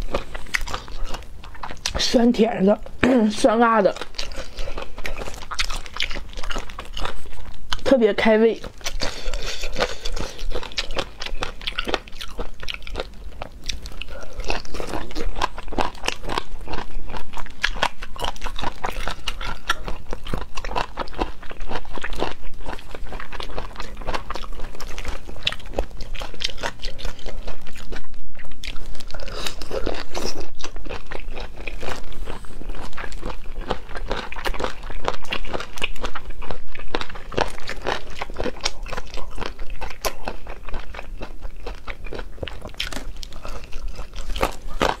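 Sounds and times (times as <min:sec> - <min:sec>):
crunchy wet chewing: 0:00.0 - 0:03.0, 0:03.7 - 0:45.0.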